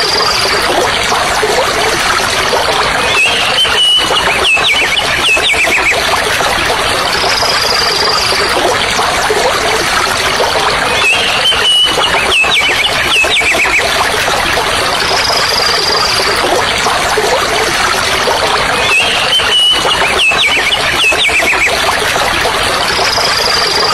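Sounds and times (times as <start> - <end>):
flowing stream: 0.0 - 23.9.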